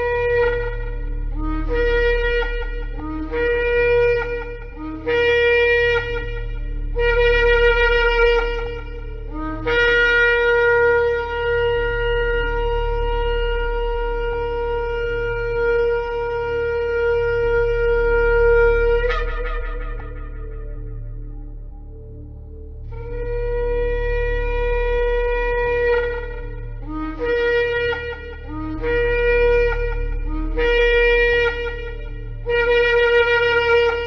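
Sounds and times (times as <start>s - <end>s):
ram's horn blasts: 0.0s - 22.3s, 22.9s - 34.0s.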